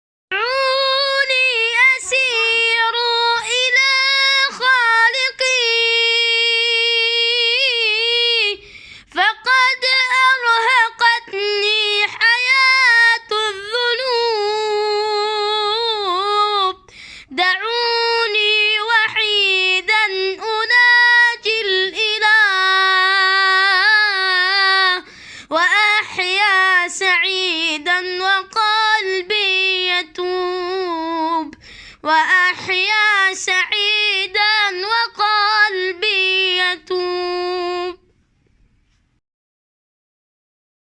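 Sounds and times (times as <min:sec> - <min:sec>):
person singing unaccompanied: 0:00.3 - 0:38.1.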